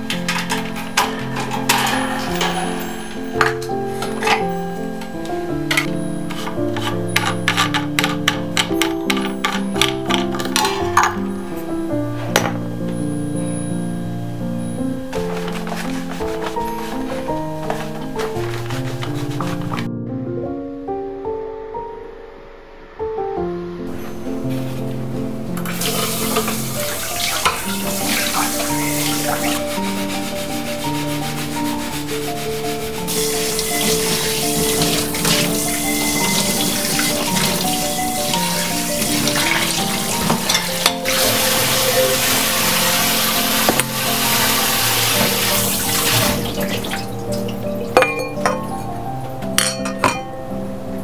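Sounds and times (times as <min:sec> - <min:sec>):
soft background music: 0:00.0 - 0:51.0.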